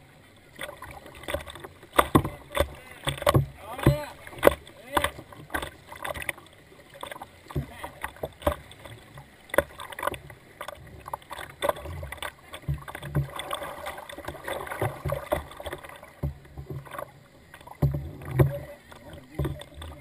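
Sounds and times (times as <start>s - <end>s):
kayak paddle splashing: 0.0s - 20.0s
rushing water: 0.0s - 20.0s
water slapping plastic hull: 0.5s - 20.0s.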